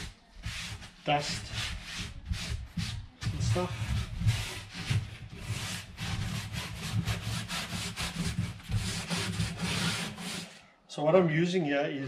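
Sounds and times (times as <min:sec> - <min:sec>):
rag rubbing on foam board: 0:00.0 - 0:10.6.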